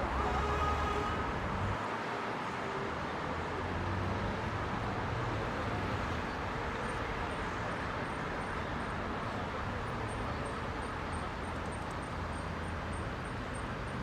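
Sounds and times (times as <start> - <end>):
car engines and tyre noise: 0.0 - 14.0.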